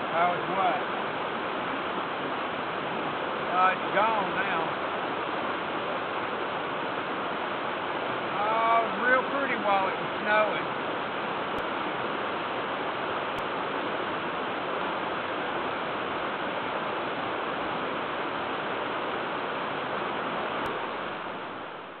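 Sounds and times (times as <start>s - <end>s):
flowing creek water: 0.0s - 22.0s.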